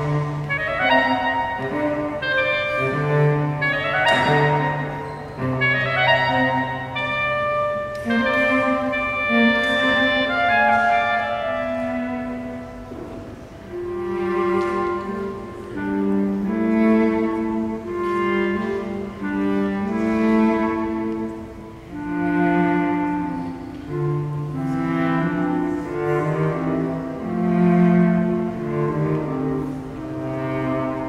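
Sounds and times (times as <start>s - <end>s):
cello: 0.0s - 31.0s
clarinet melody: 0.0s - 31.0s.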